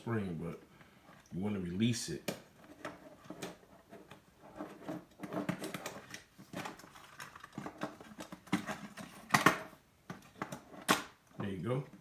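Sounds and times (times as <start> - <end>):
plastic parts clicking and rattling: 2.2 - 12.0.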